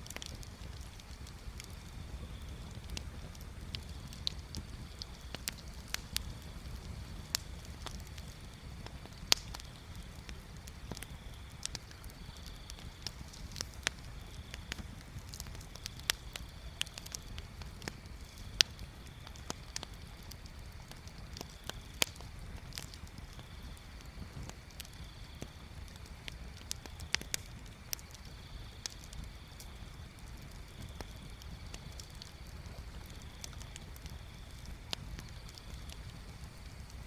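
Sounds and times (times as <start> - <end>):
bonfire crackling and popping: 0.0 - 37.0
low fire rumble: 0.0 - 37.0.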